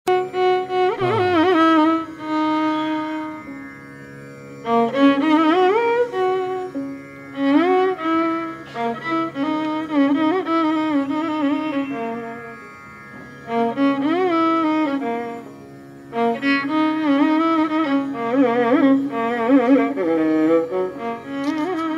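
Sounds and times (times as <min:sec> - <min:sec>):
sliding melody over drone: 0:00.1 - 0:03.6, 0:04.6 - 0:15.5, 0:16.1 - 0:21.9.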